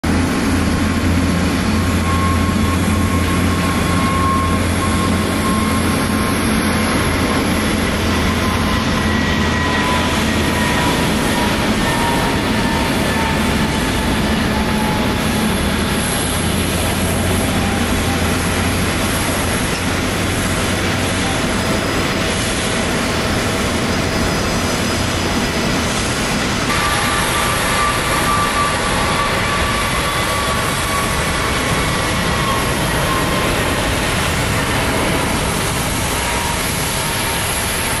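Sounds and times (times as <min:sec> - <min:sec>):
faint engine whine: 0:00.0 - 0:38.0
jet engines rumbling: 0:00.0 - 0:38.0.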